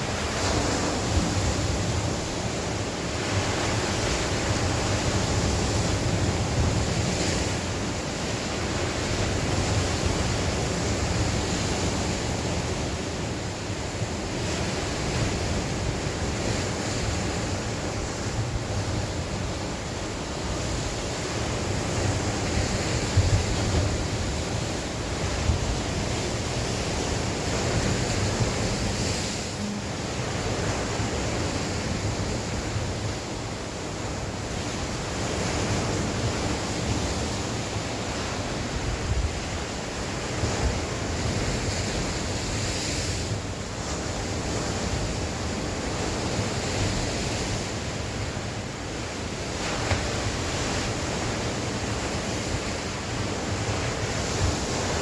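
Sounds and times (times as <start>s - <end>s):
sea waves washing in: 0.0s - 55.0s
wind blowing over microphone: 0.0s - 55.0s.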